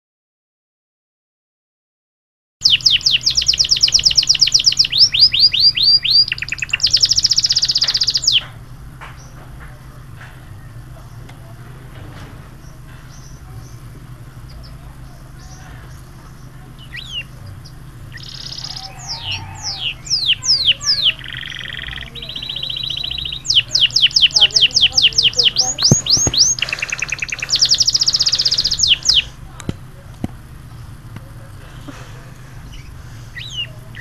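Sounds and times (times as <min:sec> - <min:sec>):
canary singing: 0:02.6 - 0:11.8, 0:12.5 - 0:34.0.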